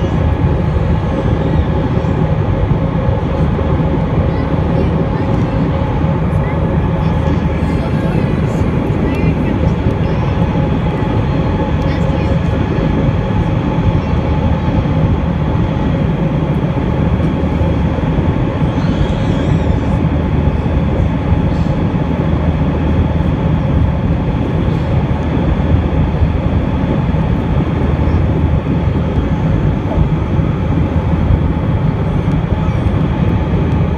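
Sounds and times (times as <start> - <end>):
faint steady hums: 0.0 - 33.9
jet engines droning: 0.0 - 33.9.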